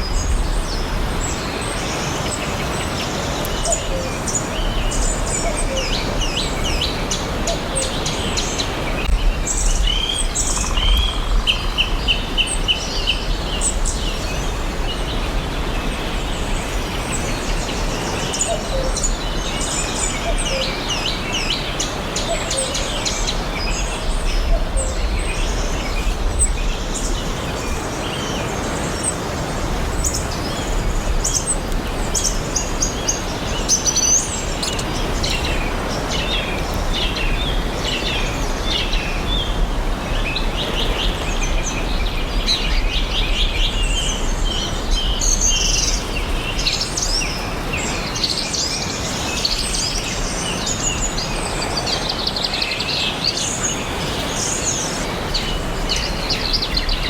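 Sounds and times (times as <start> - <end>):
forest ambience hiss: 0.0 - 57.0
songbirds chirping and singing: 0.0 - 57.0.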